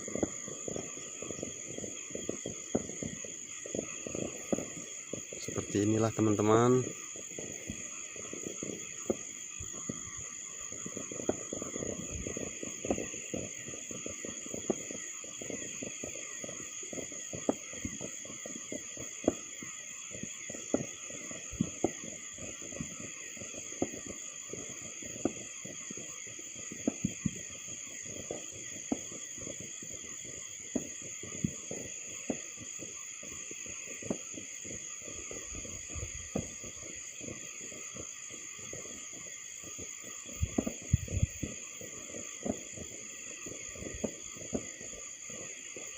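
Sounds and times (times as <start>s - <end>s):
crickets chirping: 0.0s - 45.9s
distant fireworks banging: 0.0s - 45.9s.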